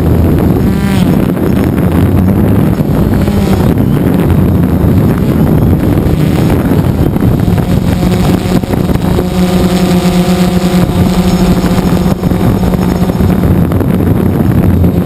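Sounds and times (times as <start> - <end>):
drone motors humming: 0.0 - 15.0
wind rushing over microphone: 0.0 - 15.0.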